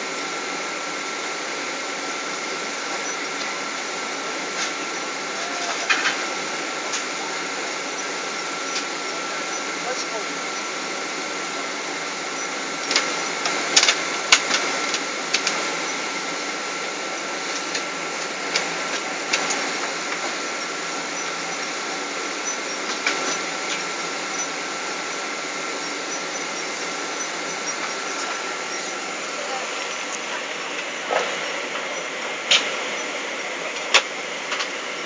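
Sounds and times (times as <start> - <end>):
airliner cabin air conditioning: 0.0 - 35.0
steady high whine: 0.0 - 35.0.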